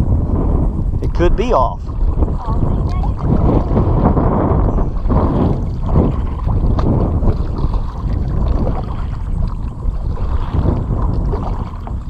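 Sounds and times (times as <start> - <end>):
wind rumble on microphone: 0.0 - 12.0
kayak paddle splashing: 1.9 - 12.0.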